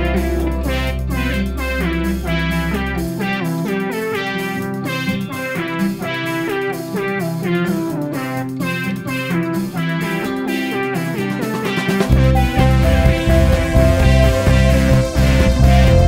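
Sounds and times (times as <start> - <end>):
plucked guitar melody: 0.0 - 16.0
steady beat: 0.0 - 16.0.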